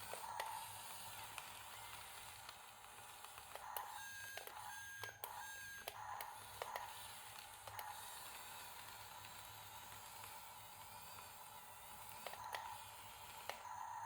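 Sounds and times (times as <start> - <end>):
sharp clicks from toy drive: 0.0 - 13.8
small electric motors whining: 0.0 - 14.0.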